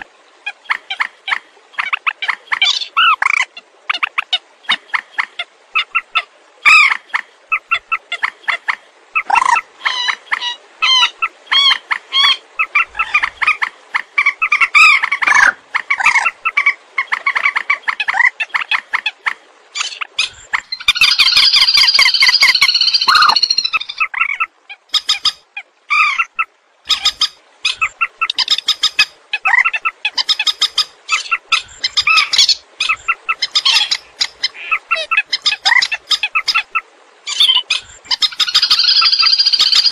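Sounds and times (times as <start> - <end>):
swamphen calls: 0.0 - 39.9.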